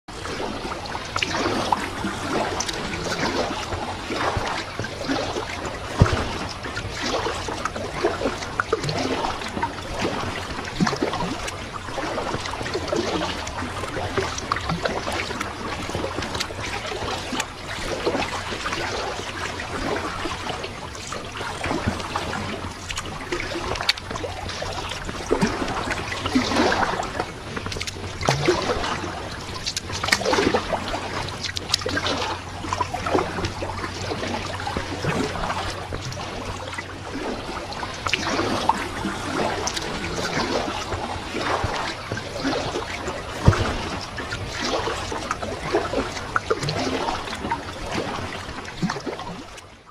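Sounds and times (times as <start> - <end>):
water dripping and trickling: 0.1 - 49.7
low steady hum: 0.1 - 49.9
paddle splashing water: 0.1 - 49.9.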